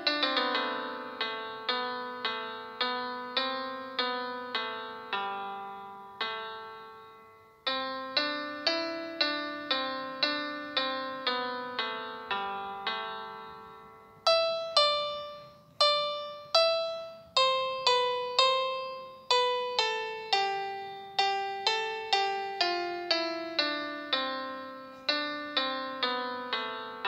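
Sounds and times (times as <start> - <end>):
slow keyboard melody: 0.0 - 27.0.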